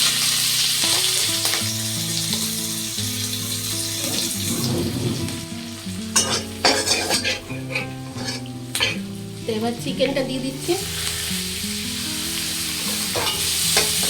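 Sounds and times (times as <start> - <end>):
garlic sizzling in hot oil: 0.0 - 14.0
background music: 0.1 - 14.0.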